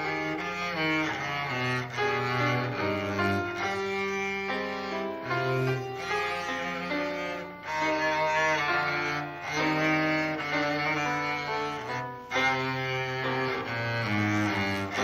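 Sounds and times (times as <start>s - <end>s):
bowed cello melody: 0.0s - 15.0s.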